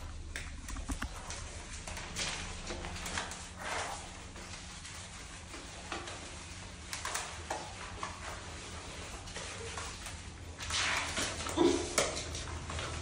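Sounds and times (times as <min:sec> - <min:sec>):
steady low hum: 0:00.0 - 0:11.6
wet rubbing of soapy fur: 0:00.0 - 0:13.0.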